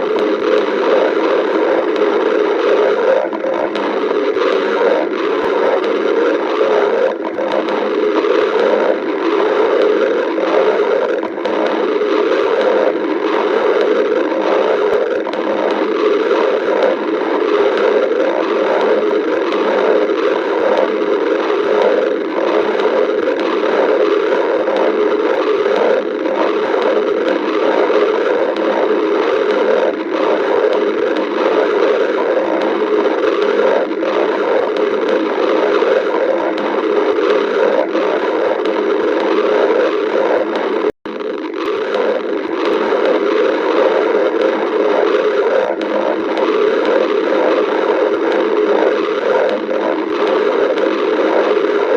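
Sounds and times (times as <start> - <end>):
stomach growling: 0.0 - 51.9.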